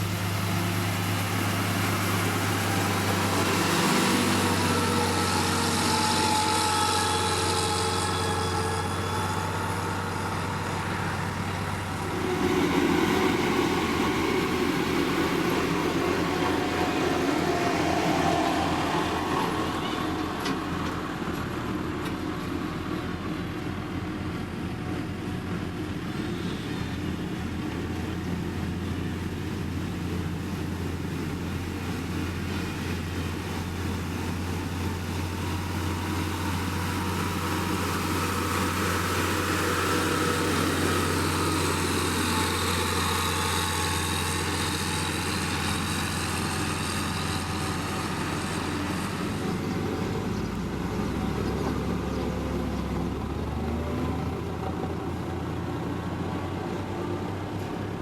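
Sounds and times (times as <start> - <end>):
diesel engine running: 0.0 - 58.0
rough mechanical rumble: 0.0 - 58.0.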